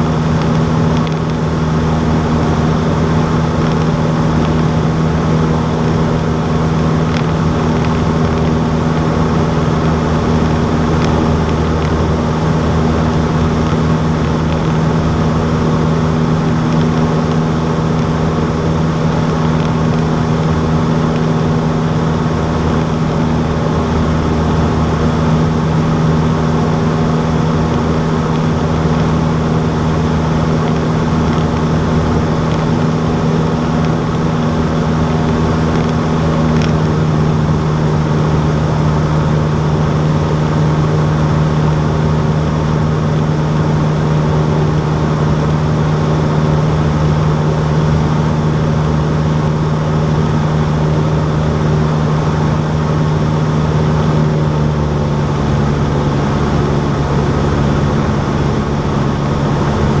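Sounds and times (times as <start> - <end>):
light aircraft engine and propeller droning: 0.0 - 60.0.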